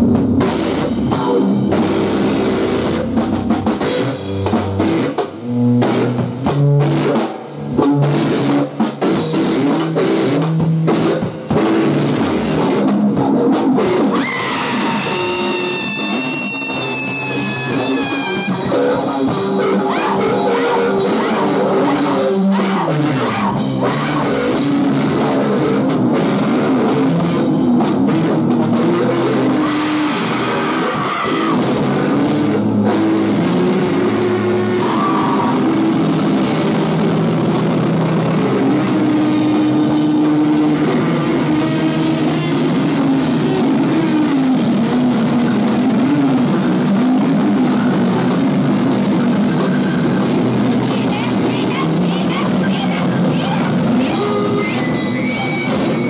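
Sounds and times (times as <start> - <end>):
rock band playing loudly: 0.0 - 56.0
sliding guitar notes: 0.0 - 56.0.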